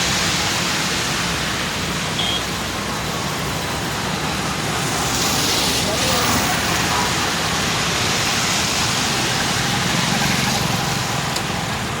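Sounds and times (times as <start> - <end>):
floodwater rushing: 0.0 - 12.0
vehicles driving through water: 0.0 - 12.0.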